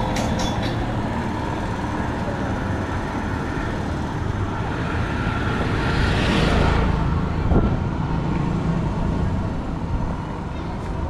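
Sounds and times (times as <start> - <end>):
traffic engine rumble: 0.0 - 11.0
vehicle passing close: 1.0 - 10.4.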